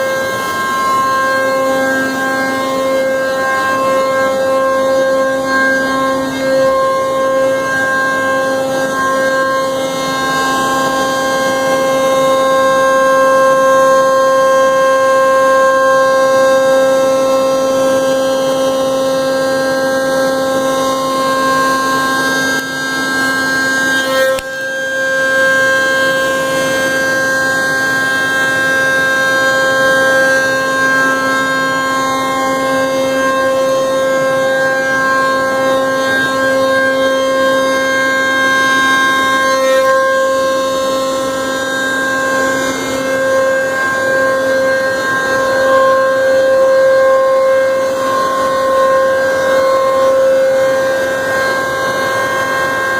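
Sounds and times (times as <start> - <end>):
bit cutting plywood: 0.0 - 52.9
router spindle whining: 0.0 - 52.9.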